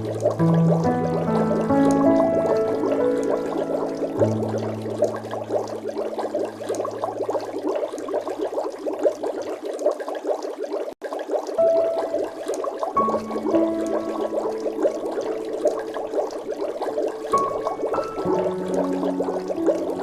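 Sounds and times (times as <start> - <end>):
water bubbling and gurgling: 0.0 - 20.0.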